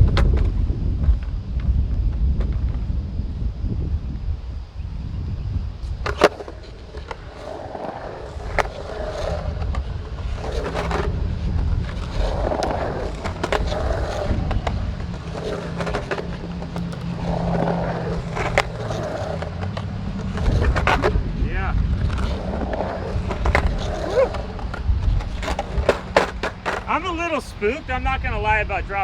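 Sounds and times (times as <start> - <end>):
skateboard clacks: 0.0 - 3.2, 4.1 - 29.0
skateboard wheels rumbling: 0.0 - 29.0.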